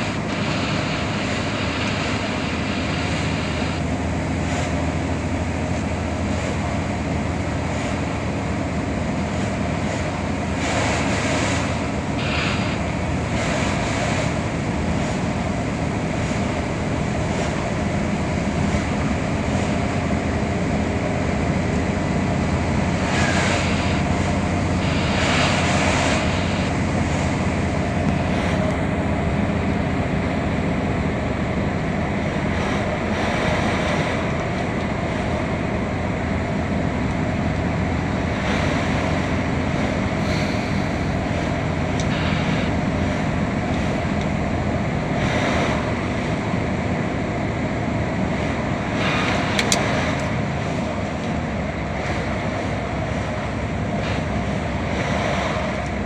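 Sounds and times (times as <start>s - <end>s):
tyre noise on wet road: 0.0s - 56.0s
vehicle engine drone: 0.0s - 56.0s
passing vehicles rushing: 9.3s - 56.0s.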